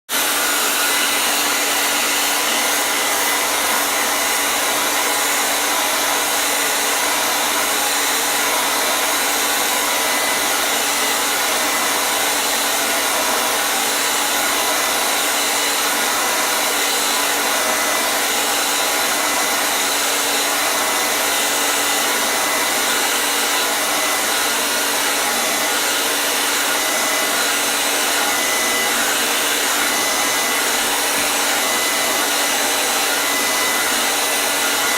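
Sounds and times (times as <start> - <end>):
hair dryer airflow: 0.1 - 34.9.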